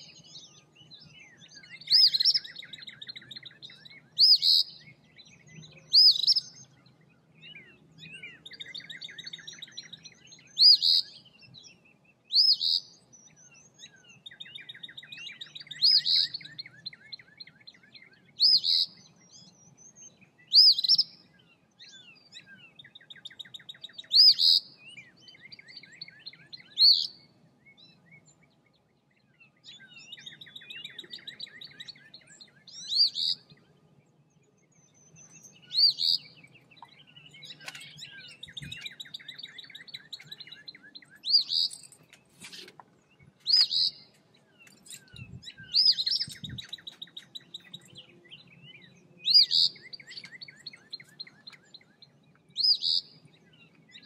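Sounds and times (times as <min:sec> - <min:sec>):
bird singing hooked phrases: 0:00.0 - 0:54.0.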